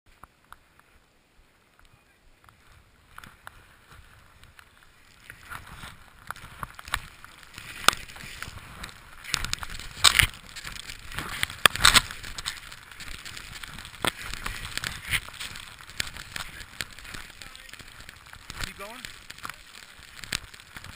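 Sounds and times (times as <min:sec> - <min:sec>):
skis hissing through powder snow: 0:02.0 - 0:20.9
skis scraping at turns: 0:02.4 - 0:20.9.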